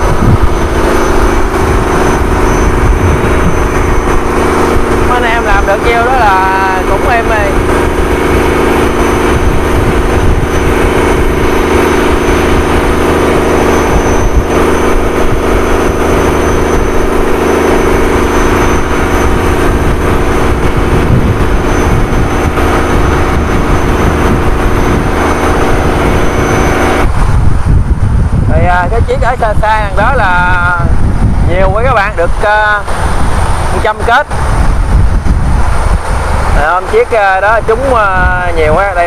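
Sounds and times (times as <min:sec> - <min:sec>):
boat engine droning: 0:00.0 - 0:39.0
rushing wind and water: 0:00.0 - 0:39.0.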